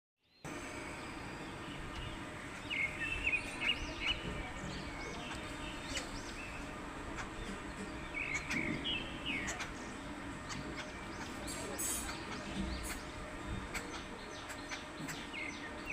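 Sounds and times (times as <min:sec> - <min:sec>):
small birds chirping: 0:00.2 - 0:15.9
steady background noise: 0:00.4 - 0:15.9.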